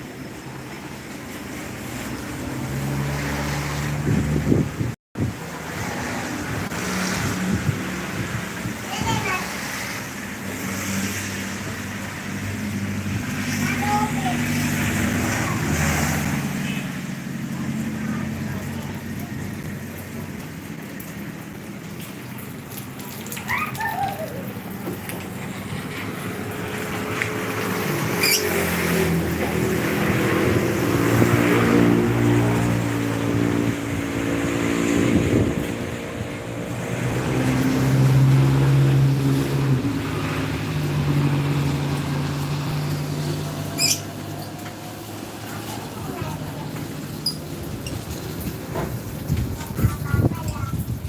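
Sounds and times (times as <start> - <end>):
vehicle engine hum: 0.0 - 22.8, 23.4 - 51.0
steady rain: 0.0 - 51.0.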